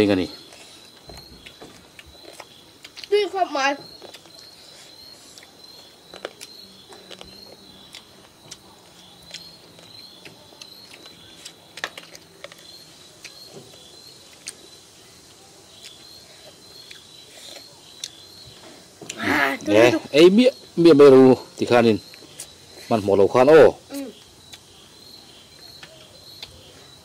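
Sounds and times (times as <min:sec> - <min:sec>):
insects chirping: 0:00.0 - 0:27.0
children chewing and lip-smacking: 0:00.1 - 0:23.2, 0:23.9 - 0:27.0.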